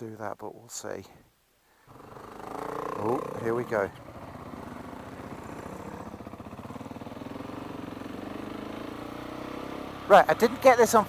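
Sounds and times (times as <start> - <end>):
motorcycle engine running: 1.9 - 11.0.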